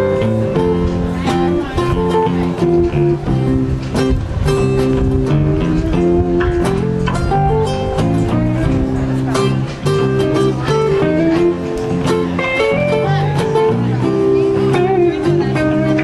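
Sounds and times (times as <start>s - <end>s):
guitar-led band music: 0.0s - 16.0s.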